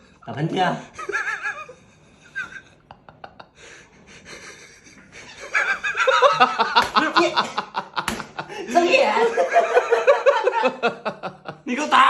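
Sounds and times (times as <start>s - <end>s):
people laughing and snickering: 0.9s - 12.0s.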